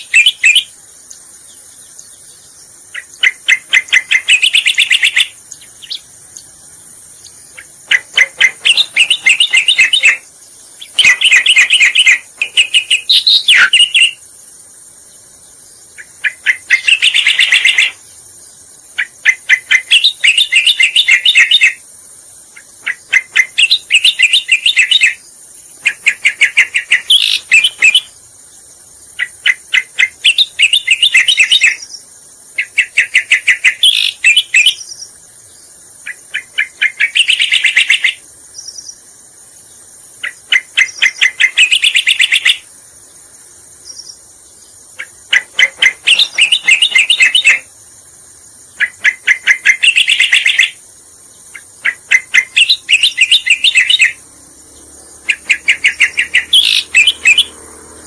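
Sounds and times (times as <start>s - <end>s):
bird song rapid chattering: 0.0s - 58.0s.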